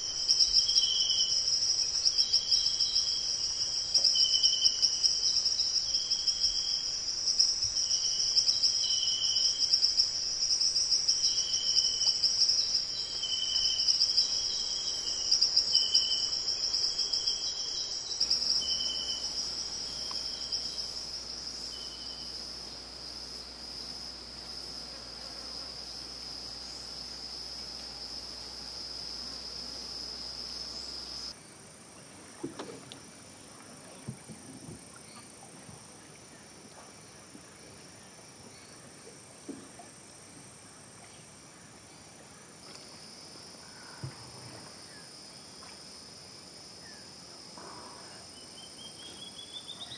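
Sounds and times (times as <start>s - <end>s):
insect chorus buzzing: 0.0s - 49.9s.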